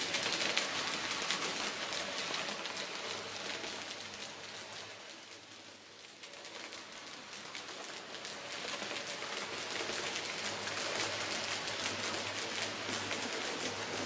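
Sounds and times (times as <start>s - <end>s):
model train wheels clicking on rails: 0.0s - 14.0s.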